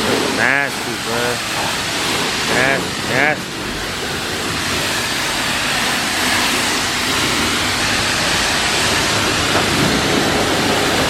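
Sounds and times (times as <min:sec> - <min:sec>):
water spray hitting car: 0:00.0 - 0:11.0.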